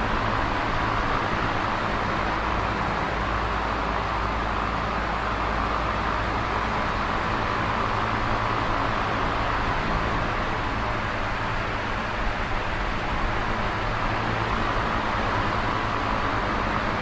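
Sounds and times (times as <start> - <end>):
electric fan air rush: 0.0 - 17.0
fan motor hum: 0.0 - 17.0.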